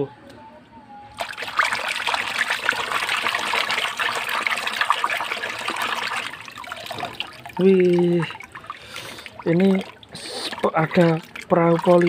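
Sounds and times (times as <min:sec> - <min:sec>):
water splashing in a plastic tub: 0:01.1 - 0:12.0.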